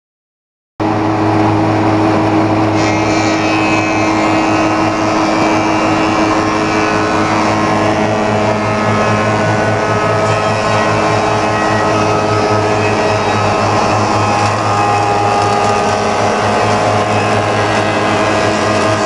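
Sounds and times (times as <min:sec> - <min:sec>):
higher machine whine: 0:00.8 - 0:19.0
planer machine hum and whine: 0:00.8 - 0:19.0.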